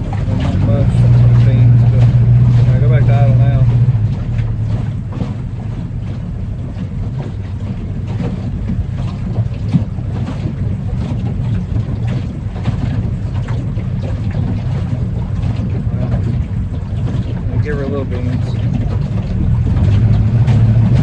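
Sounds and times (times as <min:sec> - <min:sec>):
engine running at low speed: 0:00.0 - 0:21.0.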